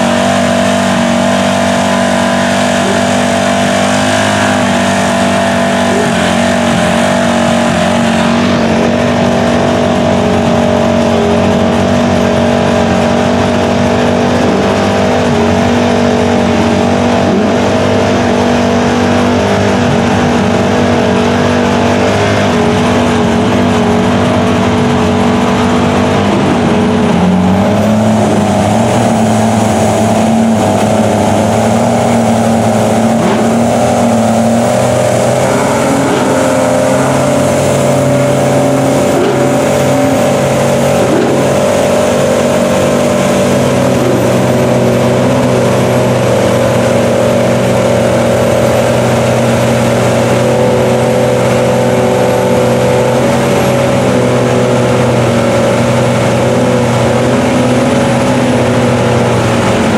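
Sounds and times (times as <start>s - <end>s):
truck engine revving under load: 0.0s - 59.9s
tyres churning mud and water: 0.0s - 59.9s.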